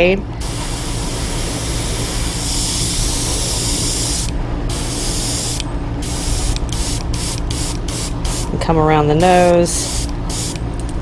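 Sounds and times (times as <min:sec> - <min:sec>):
airbrush spraying hiss: 0:00.4 - 0:08.6, 0:09.2 - 0:10.6.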